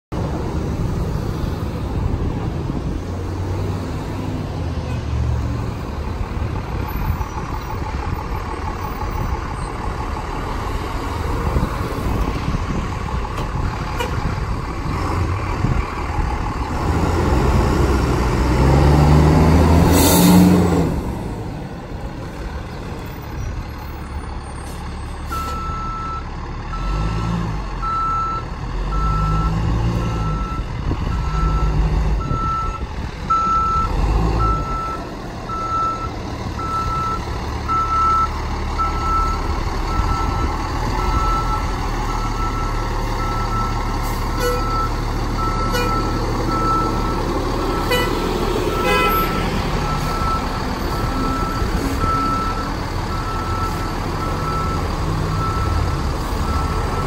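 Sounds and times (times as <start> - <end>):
diesel engine running: 0.2 - 57.0.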